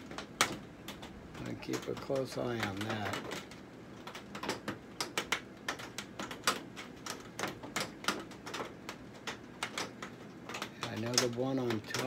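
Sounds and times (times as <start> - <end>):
raindrops on greenhouse roof: 0.0 - 12.0.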